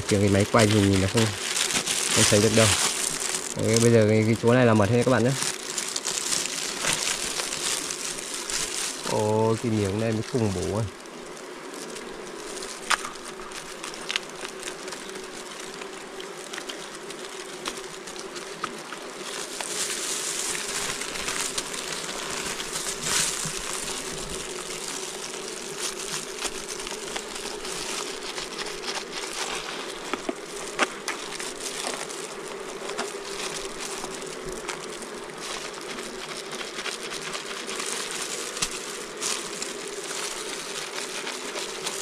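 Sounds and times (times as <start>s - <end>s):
bees buzzing: 0.0s - 42.0s
clicks and knocks of honeycomb handled: 0.0s - 42.0s.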